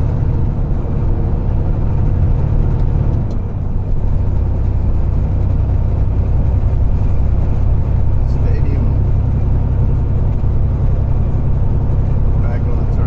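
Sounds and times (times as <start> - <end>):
road noise: 0.0 - 13.0
truck diesel engine rumble: 0.0 - 13.0.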